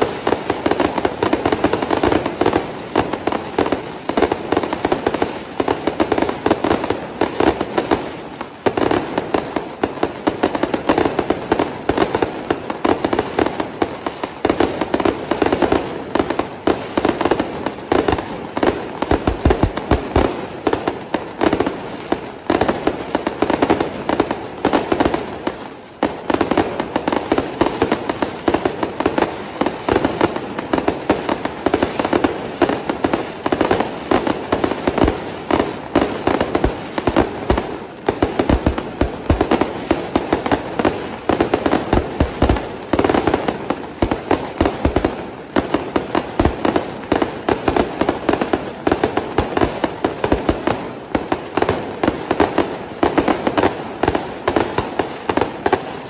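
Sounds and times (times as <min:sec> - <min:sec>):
fireworks crackling and popping: 0:00.0 - 0:56.0.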